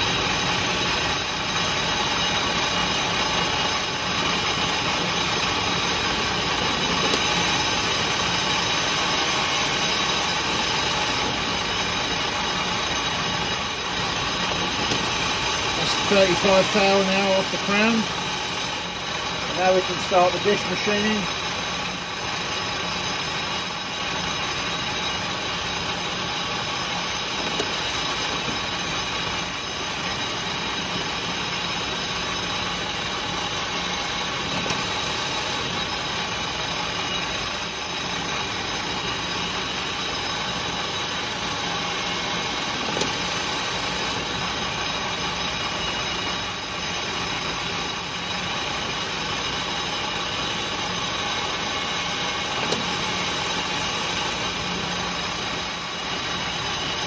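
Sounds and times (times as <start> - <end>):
metal lathe humming and whining: 0.0 - 57.0.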